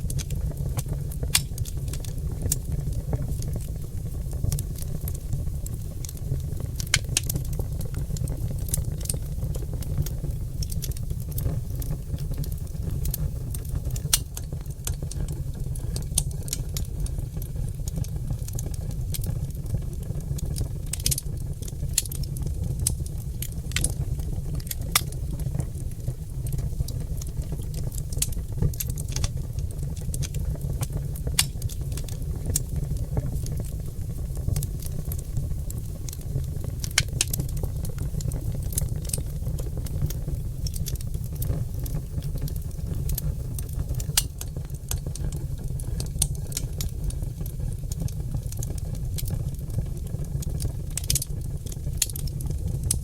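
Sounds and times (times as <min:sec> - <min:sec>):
logs crackling in open fire: 0:00.0 - 0:53.0.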